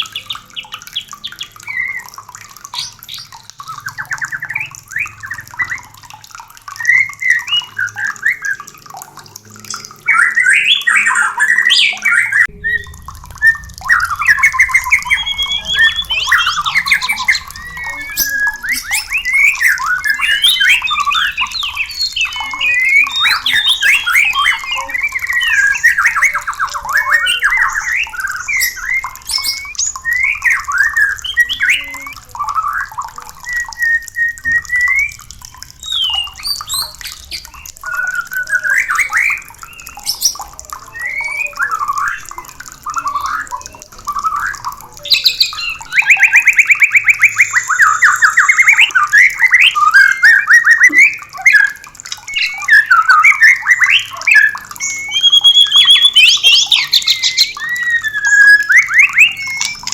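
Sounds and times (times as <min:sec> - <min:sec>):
birds singing whistled phrases: 0:00.0 - 0:59.9.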